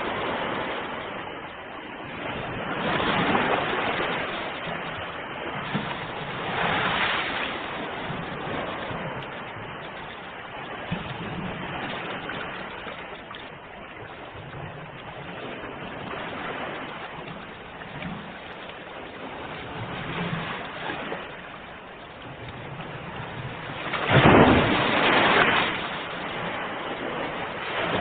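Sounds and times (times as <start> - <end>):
ocean waves washing in: 0.0 - 28.0.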